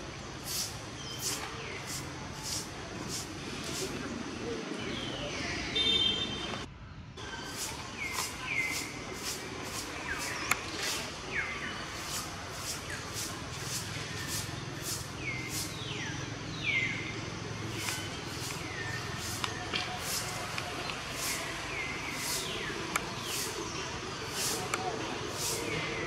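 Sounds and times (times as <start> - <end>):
downward sliding whistled calls: 0.4 - 4.1, 7.2 - 26.0.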